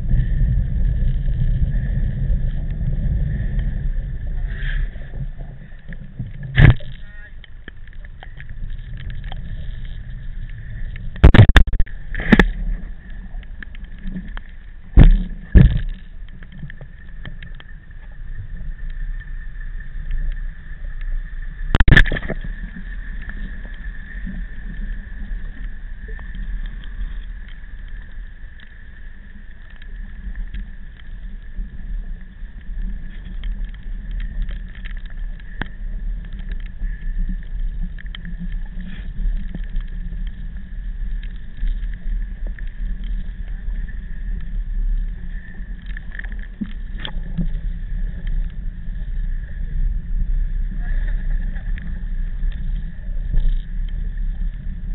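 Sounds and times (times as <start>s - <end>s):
wind rumble on microphone: 0.0s - 54.9s.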